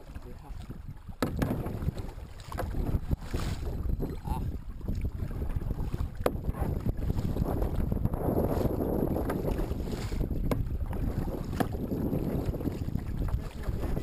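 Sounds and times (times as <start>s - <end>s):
paddle dipping and splashing: 0.0s - 14.0s
wind rumble on microphone: 0.0s - 14.0s.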